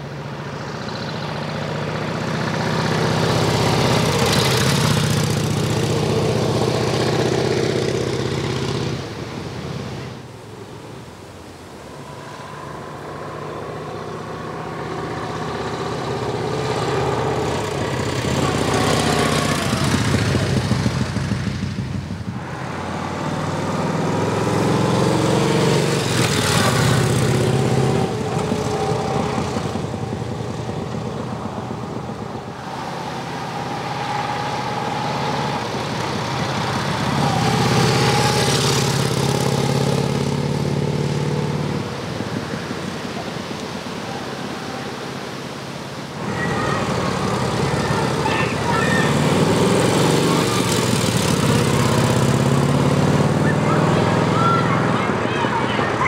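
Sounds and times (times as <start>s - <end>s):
motorcycle engine passing: 1.0s - 10.6s, 11.9s - 56.0s.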